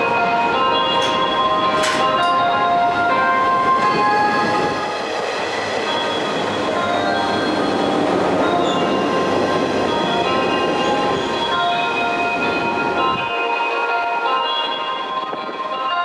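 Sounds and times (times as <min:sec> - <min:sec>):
train rumbling and rattling past: 0:00.0 - 0:16.0.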